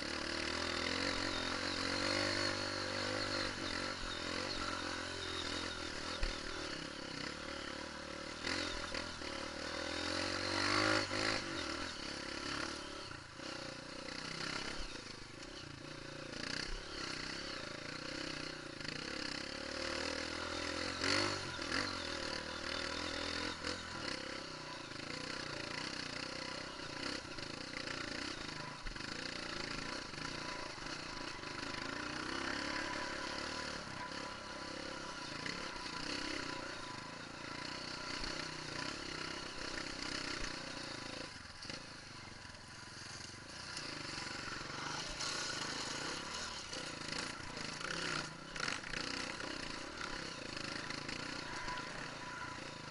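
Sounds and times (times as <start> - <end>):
dirt bike engine running: 0.0 - 52.9.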